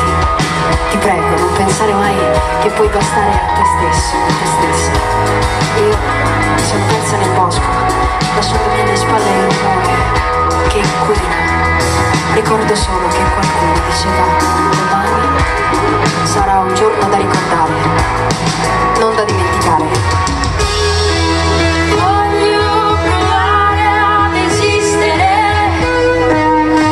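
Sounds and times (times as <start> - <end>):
drum kit beat: 0.0 - 25.8
live band playing pop-rock: 0.0 - 26.9.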